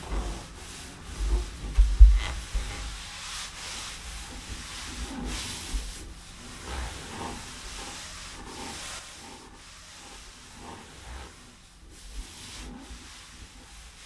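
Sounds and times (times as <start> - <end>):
charcoal scratching across paper: 0.0 - 14.0.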